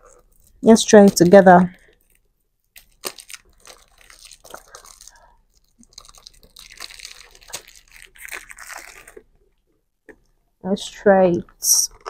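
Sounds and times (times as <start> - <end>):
packaging crinkling and crackling: 0.0 - 10.2.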